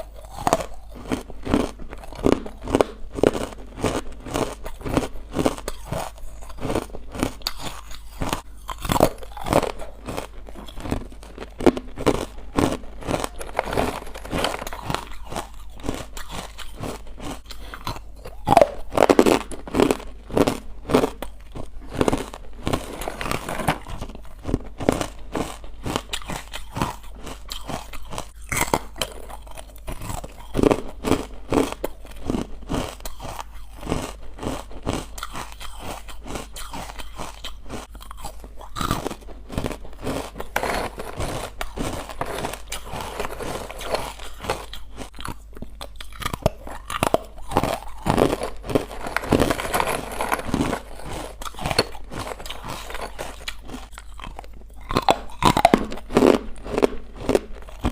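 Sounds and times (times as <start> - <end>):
crunchy ice chewing: 0.0 - 57.9.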